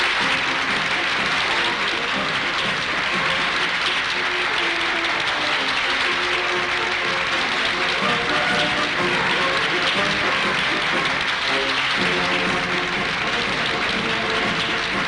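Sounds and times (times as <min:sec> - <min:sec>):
large crowd applauding: 0:00.0 - 0:15.0.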